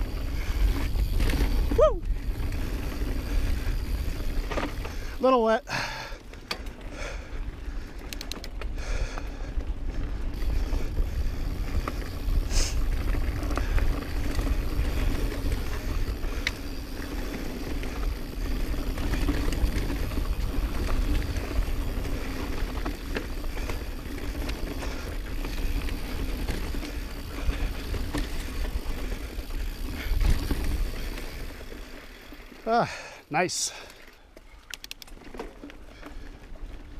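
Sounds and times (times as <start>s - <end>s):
tyres rolling on dirt: 0.0s - 34.4s
bike clicks and rattles: 0.0s - 36.9s.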